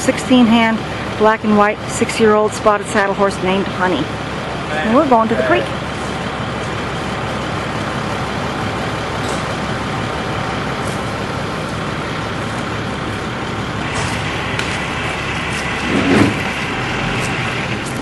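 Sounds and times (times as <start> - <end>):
large truck engine running: 0.0 - 18.0.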